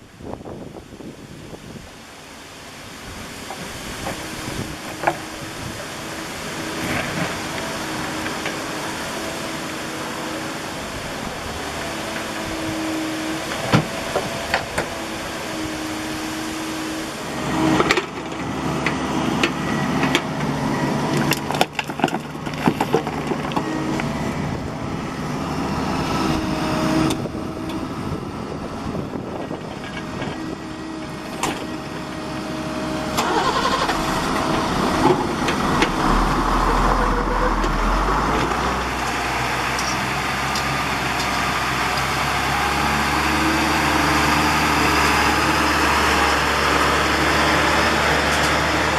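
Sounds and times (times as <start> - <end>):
excavator engine running: 3.5 - 48.9.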